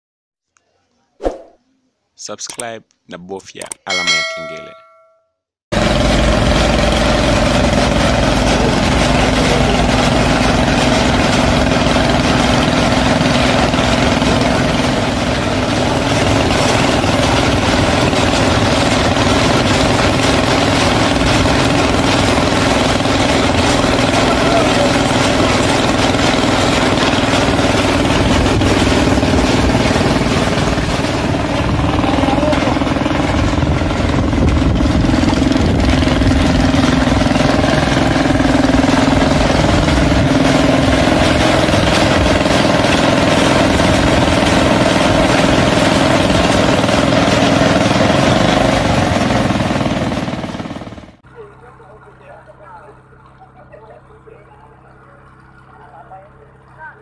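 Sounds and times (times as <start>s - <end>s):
helicopter engine running: 5.7s - 57.0s.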